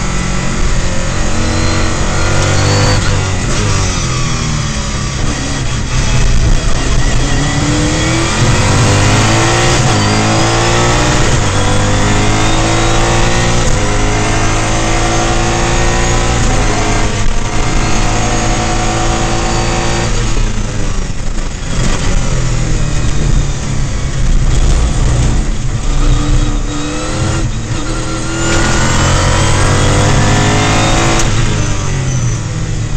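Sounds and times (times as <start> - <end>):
race car engine accelerating: 0.0 - 32.9.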